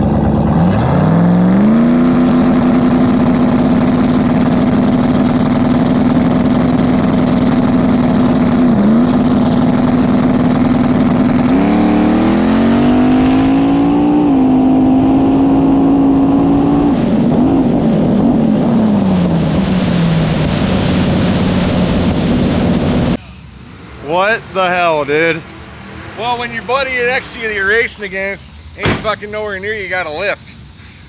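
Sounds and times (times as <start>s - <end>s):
turbocharged truck engine revving: 0.0s - 30.7s.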